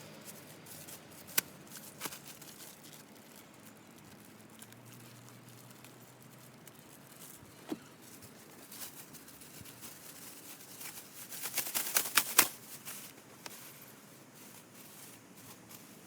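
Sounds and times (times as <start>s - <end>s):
packaging crinkling and rustling: 0.2s - 16.0s
sharp crackles and snaps: 0.3s - 13.8s.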